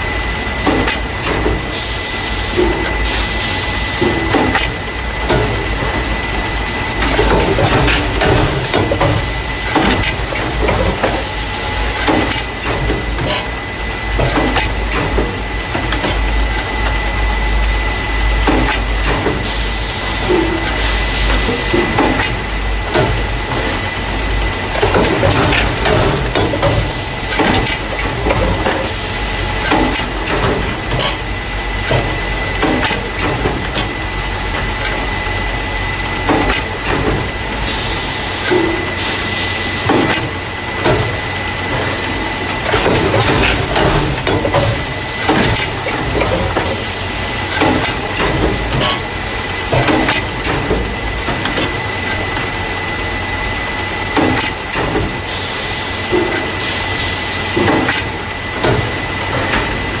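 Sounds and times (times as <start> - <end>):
machine clanks and clacks: 0.0 - 60.0
steady high machine hum: 0.0 - 60.0.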